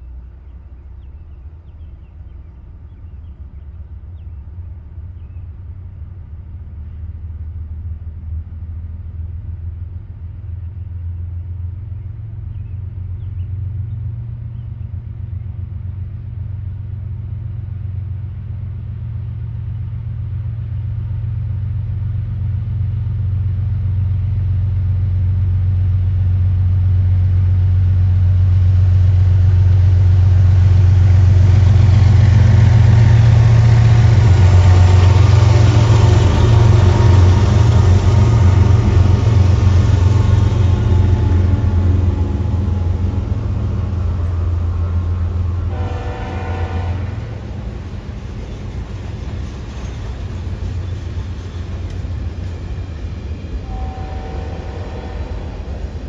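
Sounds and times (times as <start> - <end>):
diesel locomotive rumble: 0.0 - 56.0.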